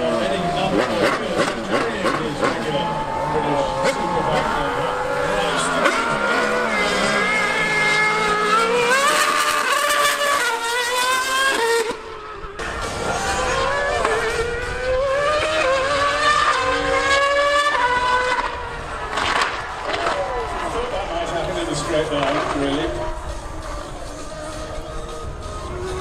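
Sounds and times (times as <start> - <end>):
motorcycle engine revving: 0.0 - 26.0
racing car engine revving: 0.0 - 26.0.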